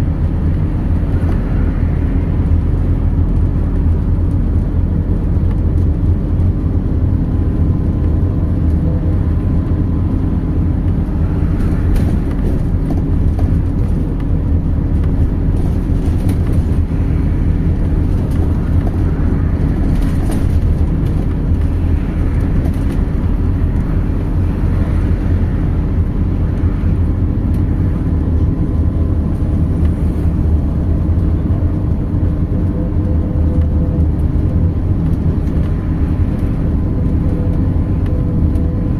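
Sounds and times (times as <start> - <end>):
bus engine and road hum: 0.0 - 38.9.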